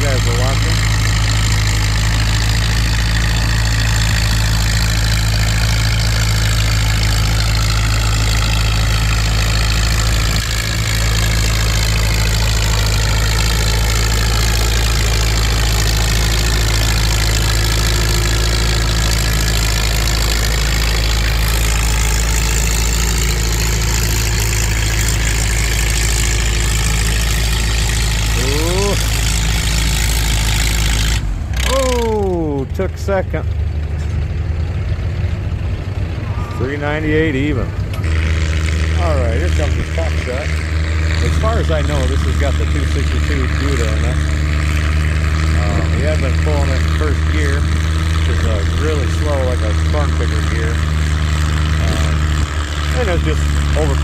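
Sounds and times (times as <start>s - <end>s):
low engine drone: 0.0s - 54.0s
tractor engine working under load: 0.0s - 54.0s.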